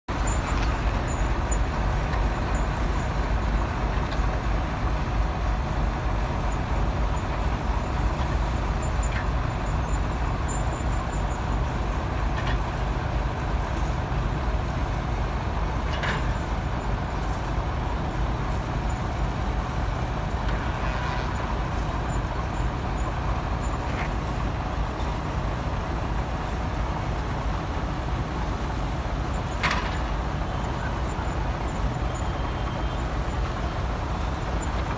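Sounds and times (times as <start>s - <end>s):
large engine running: 0.1s - 34.9s.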